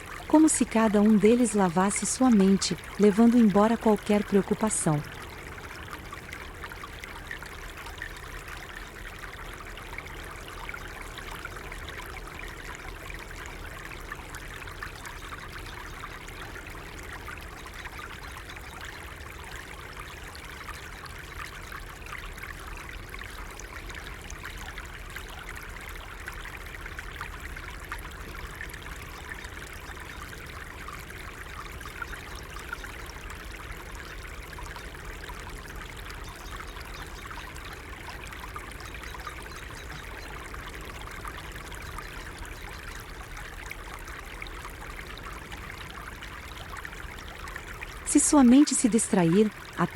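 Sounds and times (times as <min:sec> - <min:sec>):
small stream trickling: 0:00.0 - 0:49.9.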